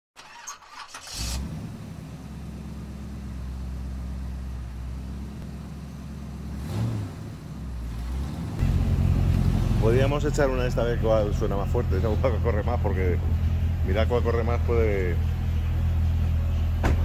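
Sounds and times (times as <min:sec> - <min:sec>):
sports car engine starting and idling: 0:00.2 - 0:17.0.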